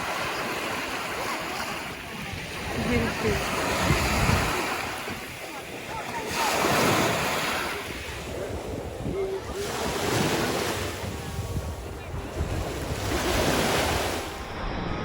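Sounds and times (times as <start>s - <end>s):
sea waves washing onto shore: 0.0s - 14.5s
wind rumbling on microphone: 0.0s - 15.0s.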